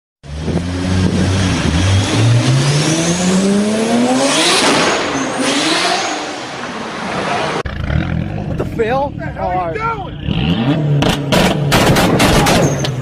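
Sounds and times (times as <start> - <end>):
sports car engine revving: 0.2 - 9.4, 10.1 - 12.8.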